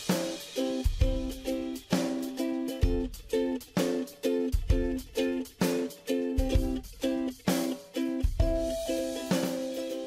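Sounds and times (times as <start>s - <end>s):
low drum beat: 0.0s - 10.0s
plucked string instrument strumming: 0.0s - 10.0s.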